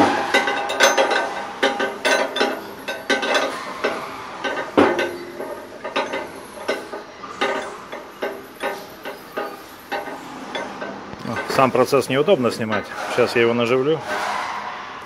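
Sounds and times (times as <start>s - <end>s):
metal chains clinking and knocking: 0.3s - 13.4s.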